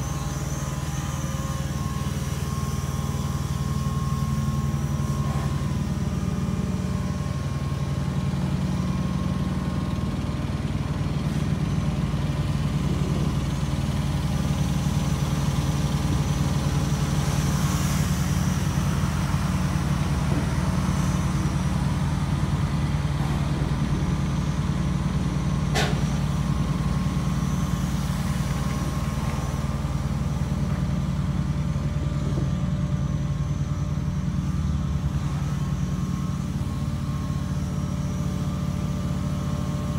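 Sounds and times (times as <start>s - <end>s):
low motor hum: 0.0s - 39.9s.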